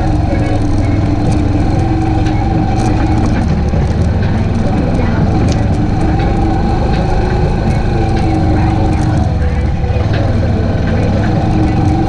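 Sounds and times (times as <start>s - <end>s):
atv engine running: 0.0s - 12.0s
sharp clicks: 0.0s - 12.0s.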